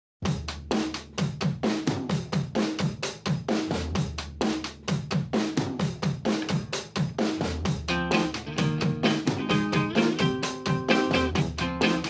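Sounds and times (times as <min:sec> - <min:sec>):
fast drum kit beat: 0:00.2 - 0:12.0.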